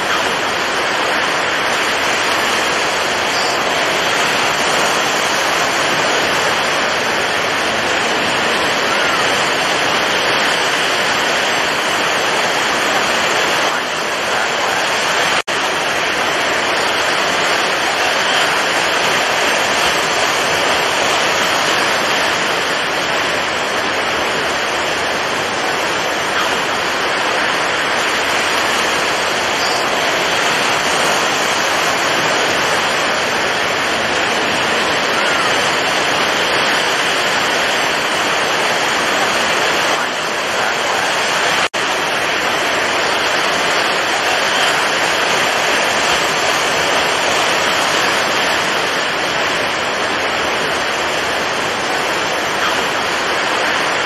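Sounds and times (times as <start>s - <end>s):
stormy sea waves and surf: 0.0s - 54.0s.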